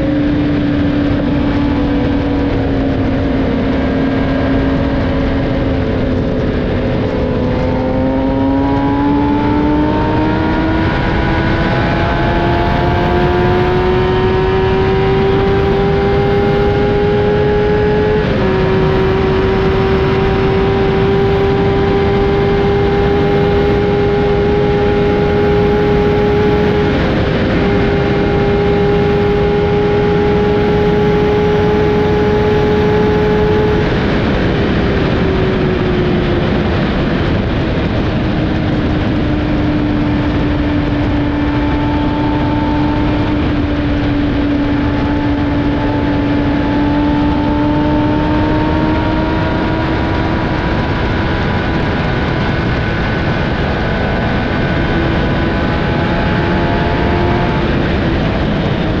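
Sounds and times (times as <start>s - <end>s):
motorcycle engine revving at full throttle: 0.0s - 59.0s
wind rush: 0.0s - 59.0s.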